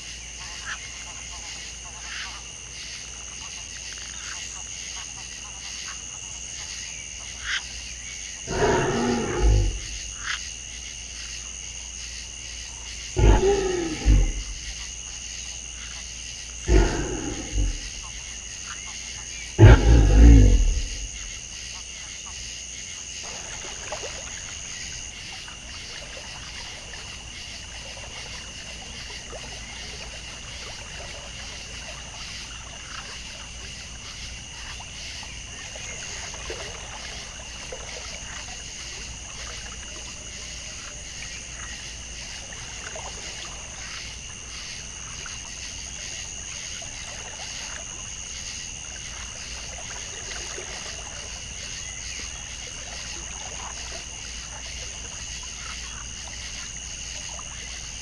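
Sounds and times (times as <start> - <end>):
water trickling and lapping: 11.5 - 58.0.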